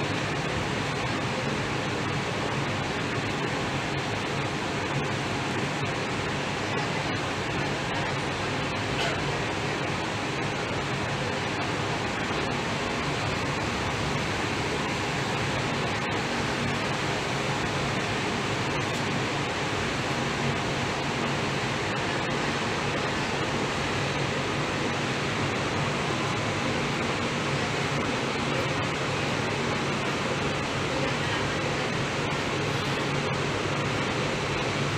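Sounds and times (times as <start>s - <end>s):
air conditioning rushing: 0.0s - 34.9s.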